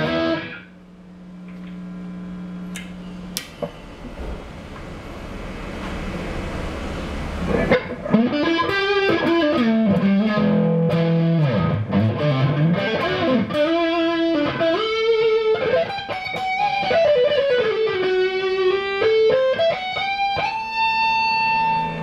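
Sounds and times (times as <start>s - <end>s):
distorted electric guitar lead: 0.0s - 22.0s.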